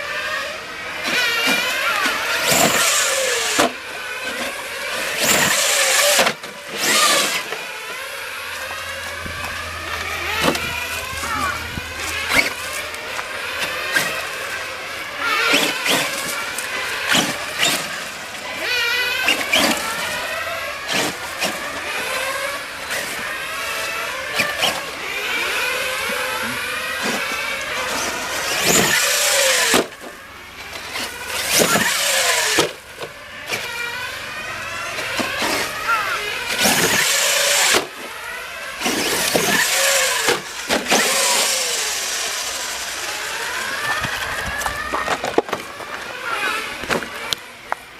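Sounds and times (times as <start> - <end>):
electric motor whining: 0.0 - 47.9.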